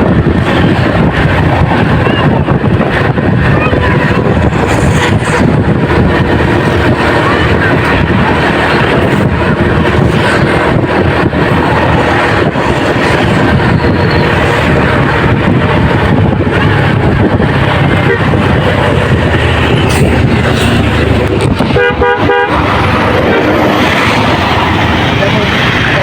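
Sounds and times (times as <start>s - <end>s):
road traffic noise: 0.0s - 26.0s
wind buffeting microphone: 0.0s - 26.0s.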